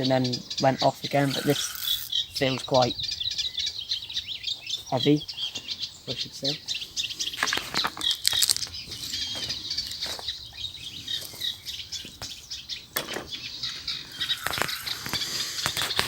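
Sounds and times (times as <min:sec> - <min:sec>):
birds singing: 0:00.0 - 0:16.0.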